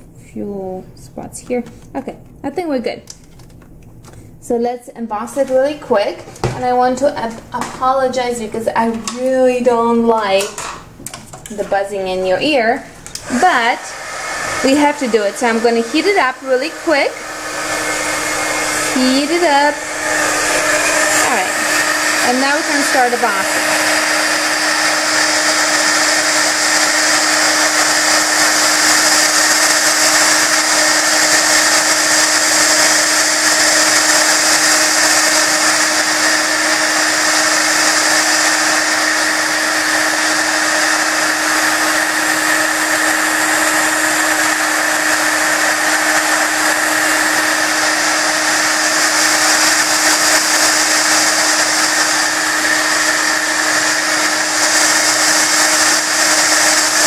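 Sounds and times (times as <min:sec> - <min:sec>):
heat gun whirring: 0:05.1 - 0:57.0.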